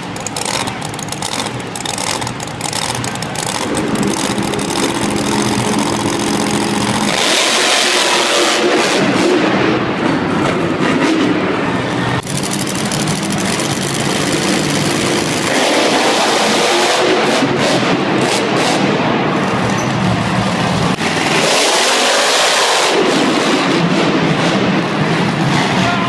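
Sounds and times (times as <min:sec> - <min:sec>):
truck engines revving: 0:00.0 - 0:25.9.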